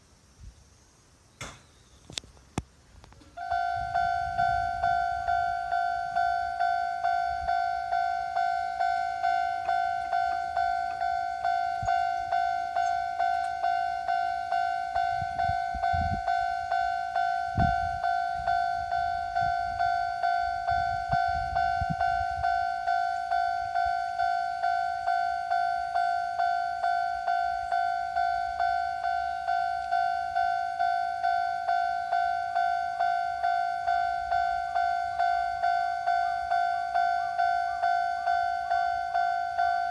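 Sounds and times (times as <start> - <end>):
level-crossing alarm dinging: 3.4 - 39.9.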